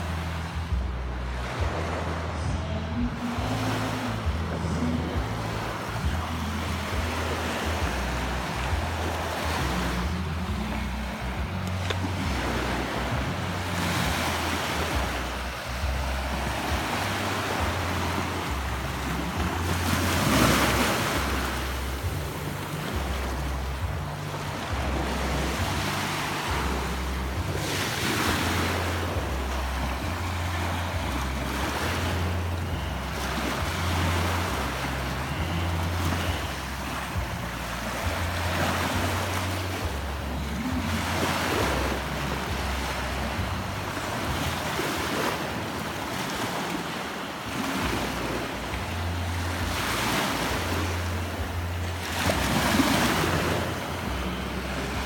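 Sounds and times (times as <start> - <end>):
waves breaking on sandy beach: 0.0 - 55.0.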